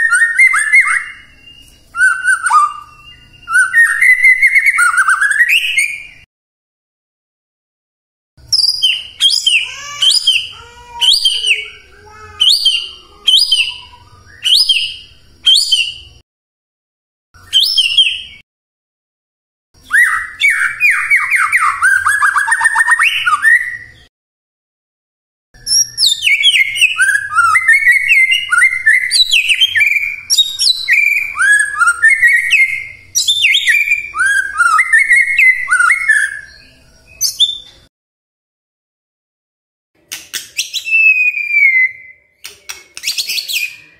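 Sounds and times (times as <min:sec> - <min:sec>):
bird whistled song: 0:00.0 - 0:06.3, 0:08.4 - 0:16.2, 0:17.4 - 0:18.4, 0:19.8 - 0:24.1, 0:25.6 - 0:37.9, 0:40.3 - 0:43.9.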